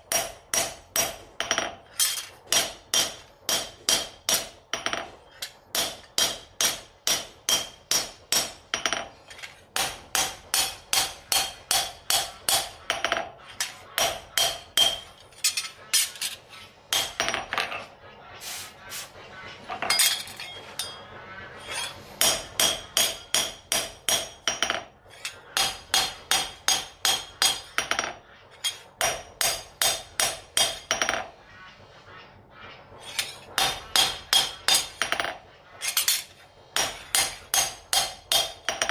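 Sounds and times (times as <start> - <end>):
hammer striking steel on anvil: 0.0 - 17.8, 19.8 - 31.3, 33.1 - 38.9.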